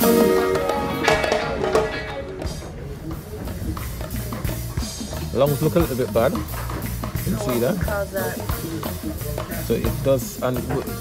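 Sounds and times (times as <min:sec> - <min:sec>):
guitar and percussion music: 0:00.0 - 0:11.0.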